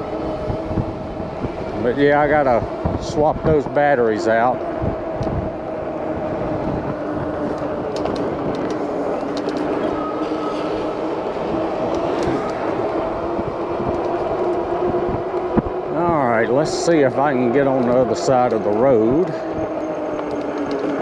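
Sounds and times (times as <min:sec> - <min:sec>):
tyre and road noise: 0:00.0 - 0:21.0.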